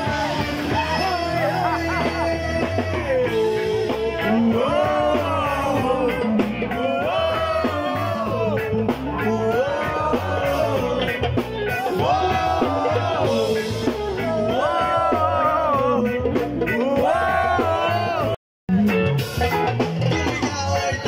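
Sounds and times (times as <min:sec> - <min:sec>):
person singing: 0:00.0 - 0:18.4
bass guitar: 0:00.0 - 0:21.0
drums: 0:00.0 - 0:21.0
electric guitar: 0:00.0 - 0:21.0.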